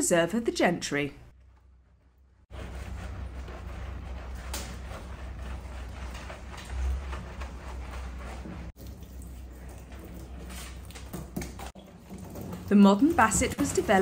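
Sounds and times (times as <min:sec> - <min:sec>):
wet lather squishing: 0:02.6 - 0:14.0.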